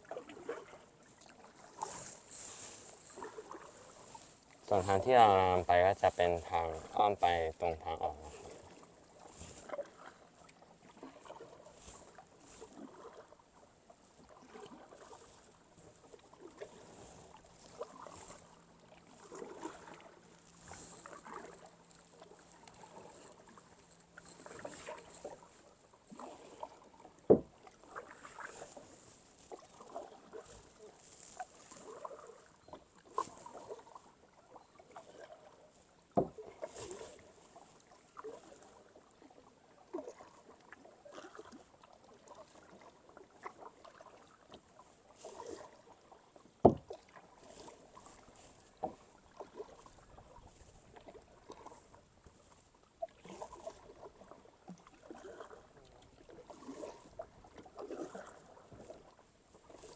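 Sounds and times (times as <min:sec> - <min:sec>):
paddle swishing through water: 0:00.0 - 0:59.9.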